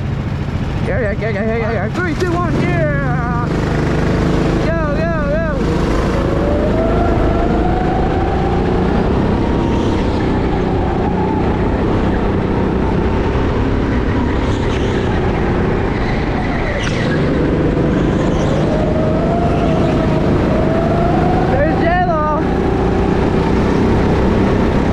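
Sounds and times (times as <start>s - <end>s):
wind and track noise: 0.0s - 24.9s
go-kart motor whine: 1.4s - 24.9s.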